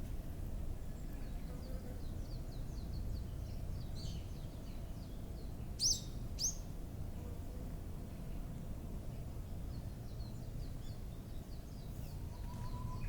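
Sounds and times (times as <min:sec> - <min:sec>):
songbirds chirping: 0:00.6 - 0:13.0.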